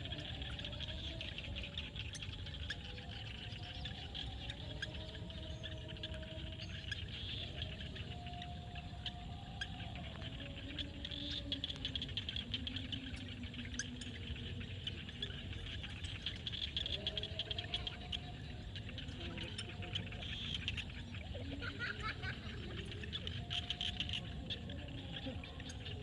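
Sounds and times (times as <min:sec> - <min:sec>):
drawn-out wavering frog calls: 0:00.0 - 0:26.0.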